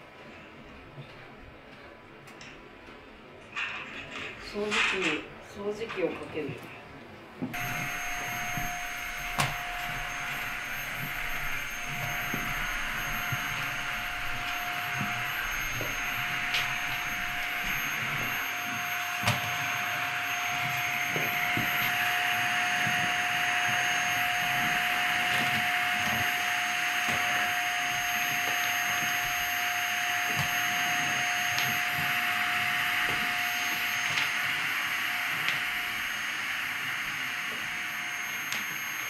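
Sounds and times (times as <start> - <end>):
vacuum cleaner running: 7.4 - 39.0.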